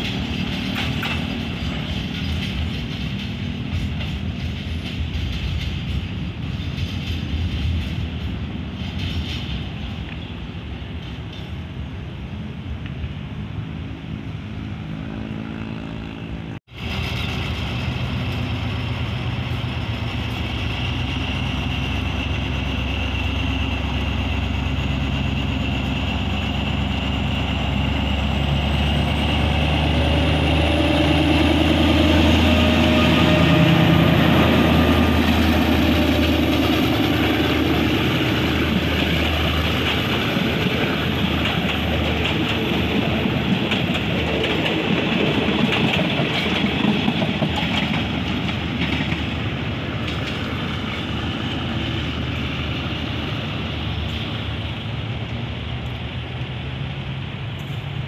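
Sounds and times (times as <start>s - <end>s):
diesel locomotive engine passing: 0.0s - 58.0s
train coaches rolling on rails: 0.0s - 58.0s.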